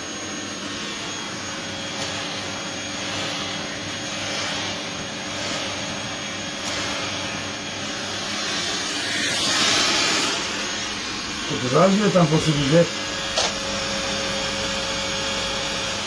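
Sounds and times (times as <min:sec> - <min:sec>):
vacuum suction hiss: 0:00.0 - 0:14.5.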